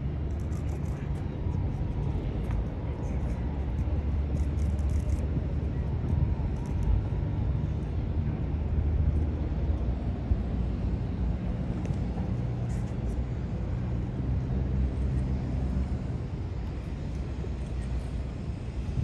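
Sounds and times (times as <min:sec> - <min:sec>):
boat engines rumbling: 0:00.0 - 0:19.0.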